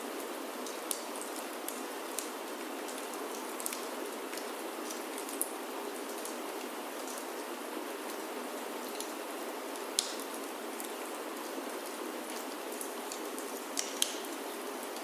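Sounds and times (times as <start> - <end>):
rain on wooden roof: 0.1 - 15.0.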